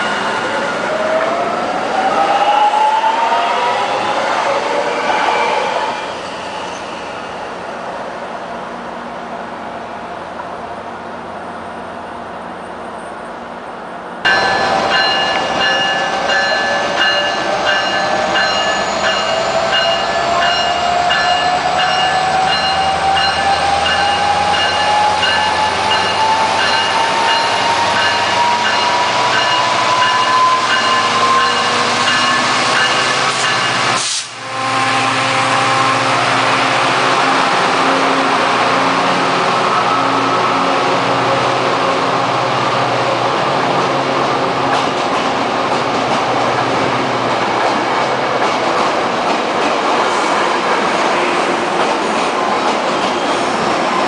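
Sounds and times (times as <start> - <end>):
diesel locomotive engine drone: 6.1 - 54.0.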